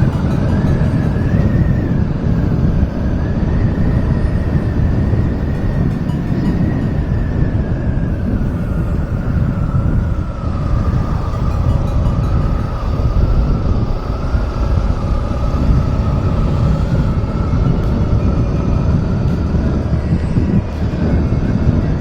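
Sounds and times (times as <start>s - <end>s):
high whine: 0.0s - 22.0s
motorcycle engine running: 0.0s - 22.0s
wind and road noise: 0.0s - 22.0s.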